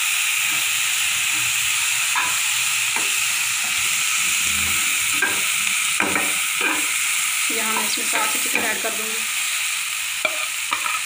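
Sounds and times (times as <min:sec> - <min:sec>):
vegetables sizzling in a frying pan: 0:00.0 - 0:11.0
spoon scraping a pan: 0:00.4 - 0:09.0, 0:10.2 - 0:11.0.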